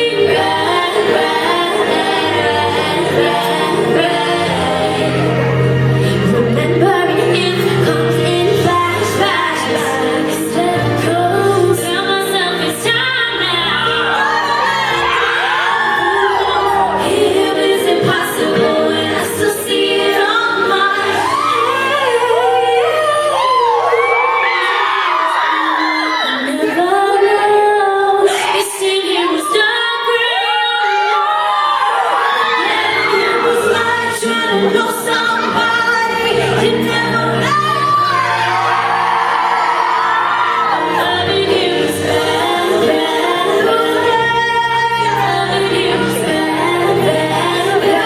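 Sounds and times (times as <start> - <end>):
women singing in harmony: 0.0 - 48.0.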